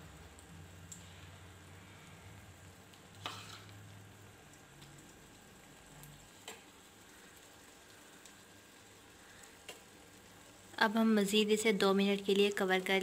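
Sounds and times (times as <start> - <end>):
omelette frying faintly: 0.0 - 13.0.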